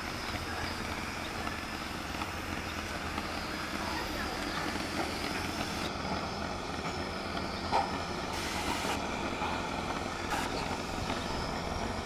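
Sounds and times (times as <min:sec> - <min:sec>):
rail trolley engine running: 0:00.0 - 0:12.0.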